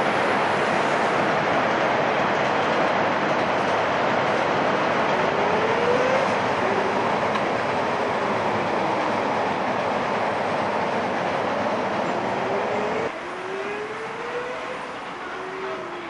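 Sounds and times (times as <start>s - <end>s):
train rumbling across bridge: 0.0s - 16.0s.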